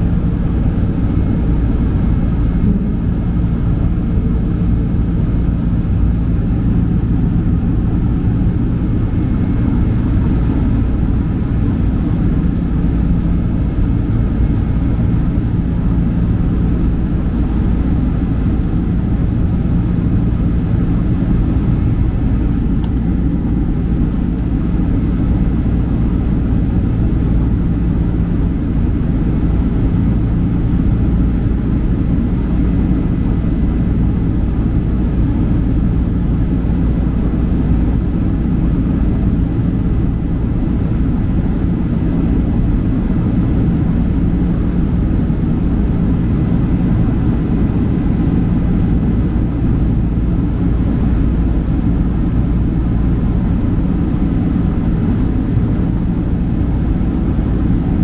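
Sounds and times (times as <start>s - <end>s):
jet engines roaring in cabin: 0.0s - 58.0s
low steady hum: 0.0s - 58.0s.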